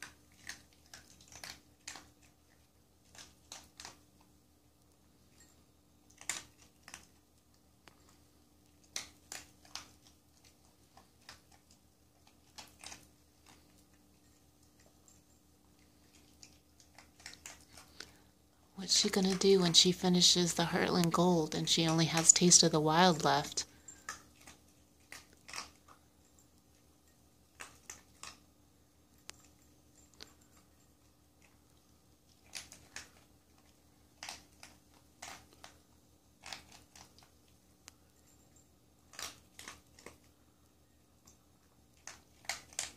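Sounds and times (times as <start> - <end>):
dog crunching dry kibble: 0.0 - 28.5, 29.1 - 40.4, 41.2 - 42.9.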